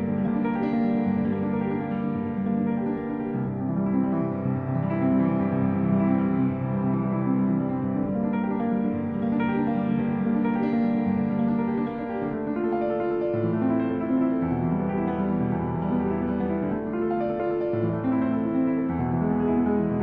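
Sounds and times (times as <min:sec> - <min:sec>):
sustained piano chords: 0:00.0 - 0:20.0.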